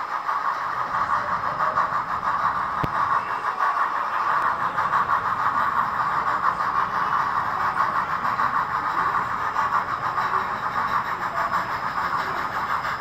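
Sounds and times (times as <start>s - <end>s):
model train running noise: 0.0s - 13.0s.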